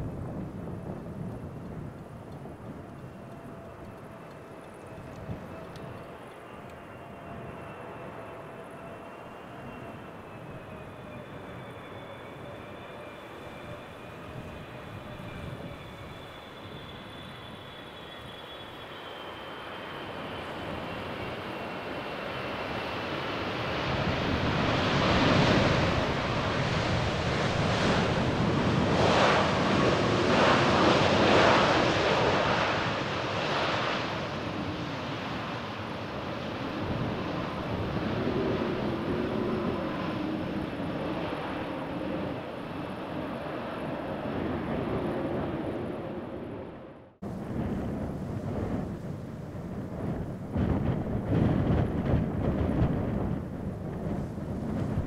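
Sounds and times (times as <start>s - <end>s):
jet airliner engine roar: 0.0s - 55.0s.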